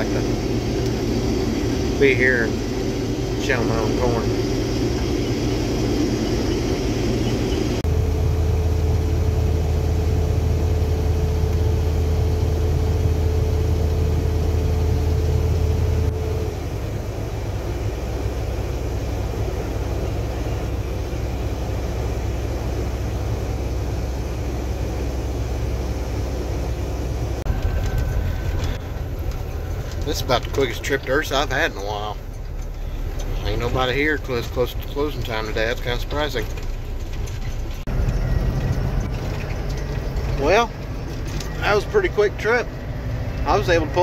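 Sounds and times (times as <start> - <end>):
combine engine and machinery drone: 0.0 - 44.0.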